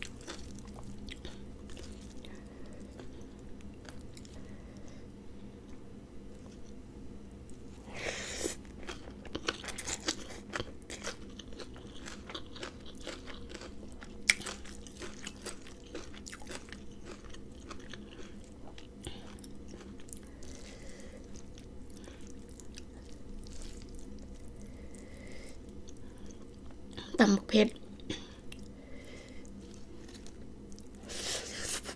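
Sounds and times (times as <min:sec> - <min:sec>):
chewing and crunching food: 0:00.0 - 0:06.8, 0:07.4 - 0:31.9
faint low hum: 0:00.0 - 0:31.9.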